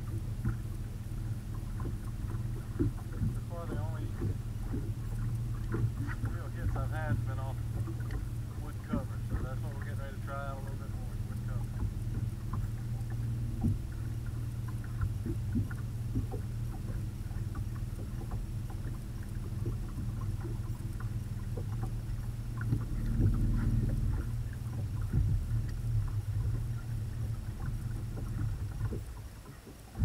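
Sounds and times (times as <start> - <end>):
electric trolling motor humming: 0.0 - 30.0.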